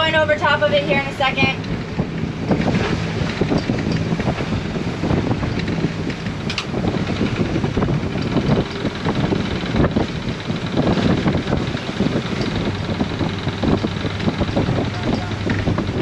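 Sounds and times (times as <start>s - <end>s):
low mechanical hum: 0.0s - 16.0s
wind on microphone: 0.0s - 16.0s
anchor chain clanking: 1.6s - 16.0s.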